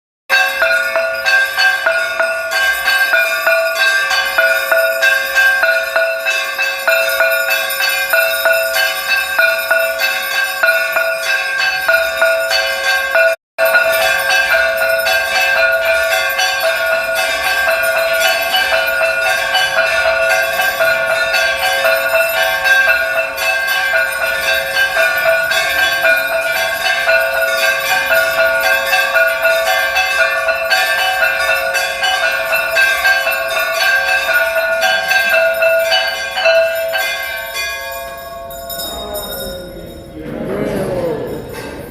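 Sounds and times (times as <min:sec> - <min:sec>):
temple bells ringing: 0:00.3 - 0:41.9.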